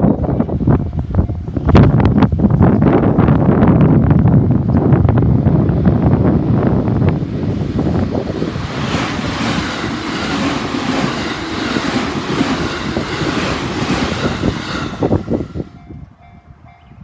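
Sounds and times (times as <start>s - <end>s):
train passing close by: 0.0s - 17.0s.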